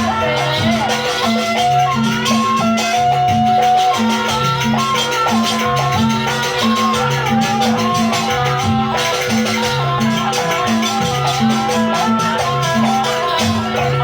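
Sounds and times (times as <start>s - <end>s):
gamelan ensemble playing: 0.0s - 14.0s
jingling percussion: 0.0s - 14.0s.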